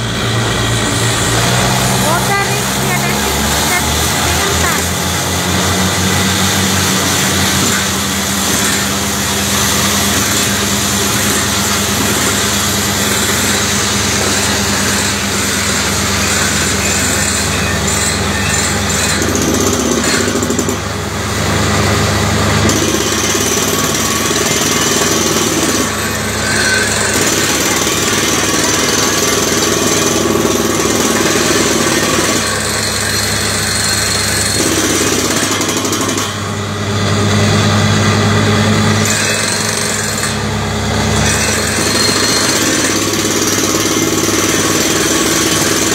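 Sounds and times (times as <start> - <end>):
drilling rig engines and compressor: 0.0 - 45.9.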